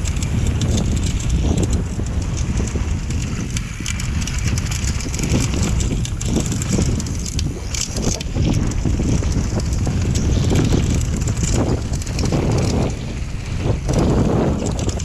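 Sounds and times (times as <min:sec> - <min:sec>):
bike rattling and clicking: 0:00.0 - 0:15.0
wind buffeting microphone: 0:00.0 - 0:15.0.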